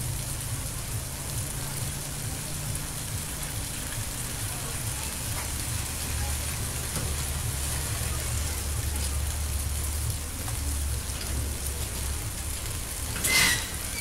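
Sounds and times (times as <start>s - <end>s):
heavy rain on roofs: 0.0s - 14.0s.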